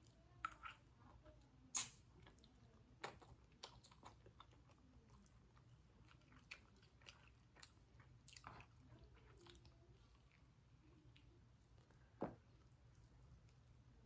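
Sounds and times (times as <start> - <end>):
chewing and mouth sounds: 0.0 - 0.9, 1.7 - 13.8.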